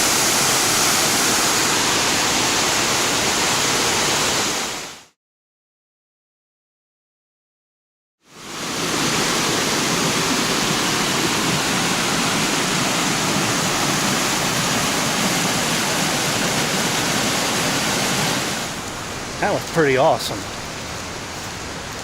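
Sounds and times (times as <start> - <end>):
waterfall cascading over rock: 0.0 - 5.1, 8.3 - 22.0.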